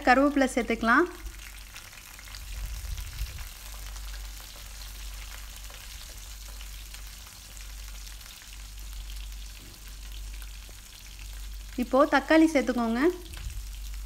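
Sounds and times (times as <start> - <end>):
food sizzling in oil: 0.0 - 14.0
small crackles: 1.2 - 11.8, 13.2 - 14.0.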